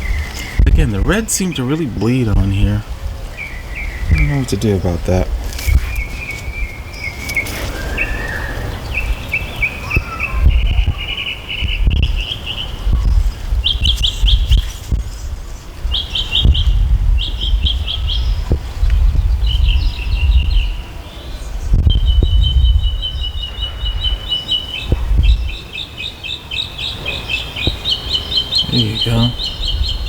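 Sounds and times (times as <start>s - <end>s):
bird chirping trills: 0.0s - 18.5s, 19.4s - 30.0s
wind buffeting microphone: 0.0s - 30.0s.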